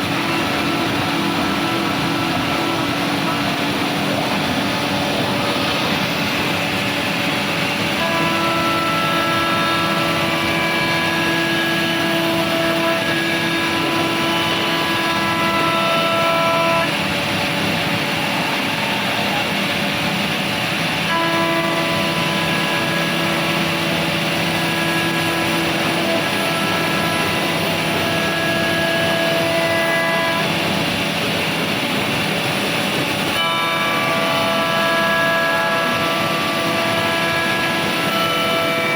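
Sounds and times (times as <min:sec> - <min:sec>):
machine whining tones: 0:00.0 - 0:38.9
woodworking machine running: 0:00.0 - 0:38.9.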